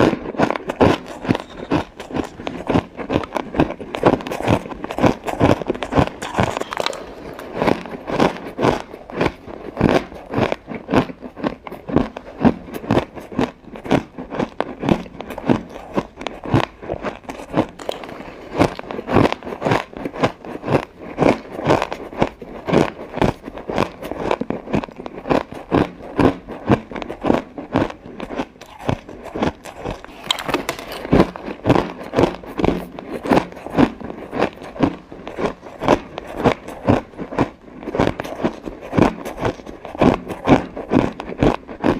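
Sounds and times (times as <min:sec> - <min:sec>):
person crunching ice cubes: 0:00.0 - 0:41.9.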